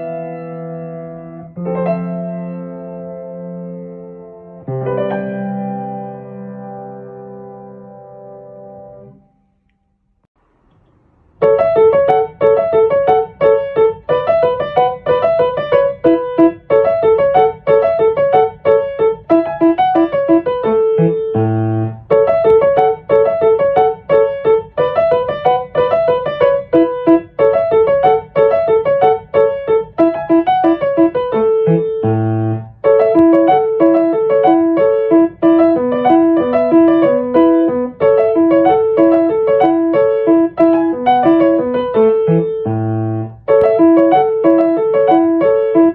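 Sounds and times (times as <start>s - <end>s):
piano keyboard tune: 0.0s - 9.4s, 11.4s - 45.9s.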